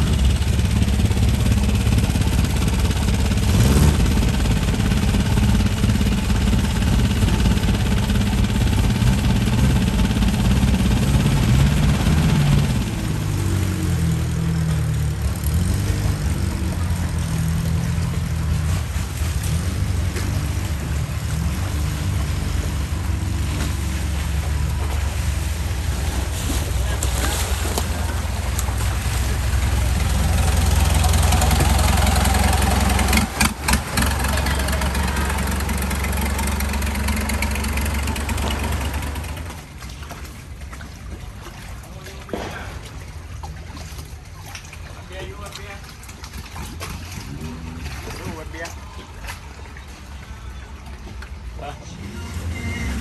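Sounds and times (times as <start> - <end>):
motorboat engine droning: 0.0 - 53.0.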